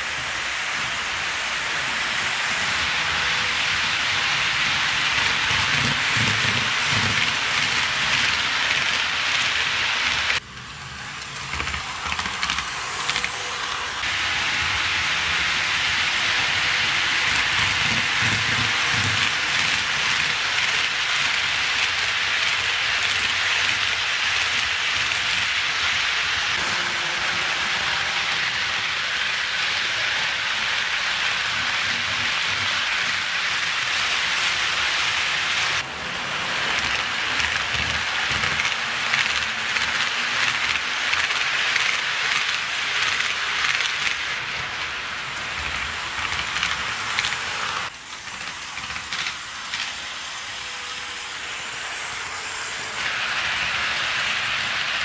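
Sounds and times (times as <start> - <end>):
model train wheels rattling: 0.6 - 55.0.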